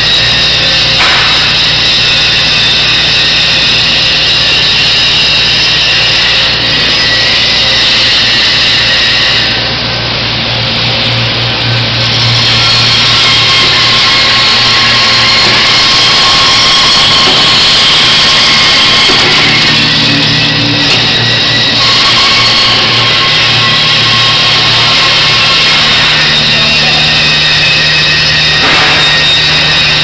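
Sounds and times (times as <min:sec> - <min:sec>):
constant machine hum: 0:00.0 - 0:30.0
power tools running: 0:00.0 - 0:30.0
welders welding: 0:00.0 - 0:30.0.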